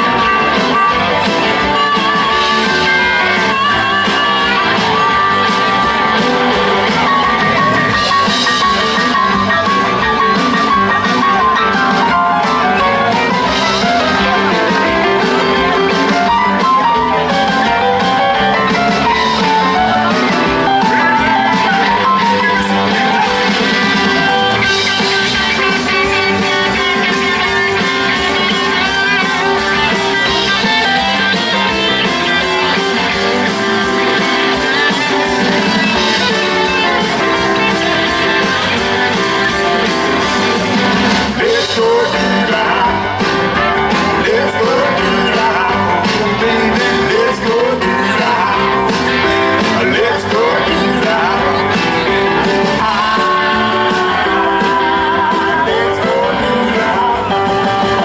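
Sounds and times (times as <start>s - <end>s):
electric guitar: 0.0s - 58.0s
live rock band: 0.0s - 58.0s.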